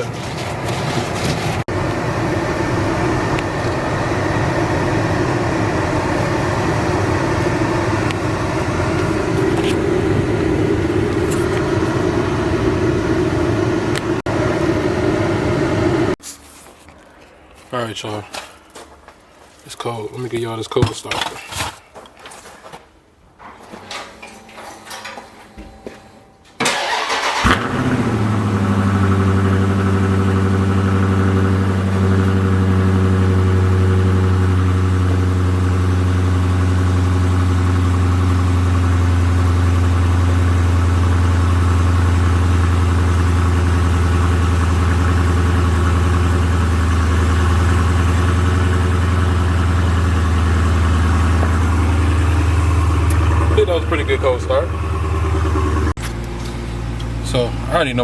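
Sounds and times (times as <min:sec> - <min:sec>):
car engine starting and idling: 0:00.0 - 0:16.2, 0:26.6 - 0:58.0.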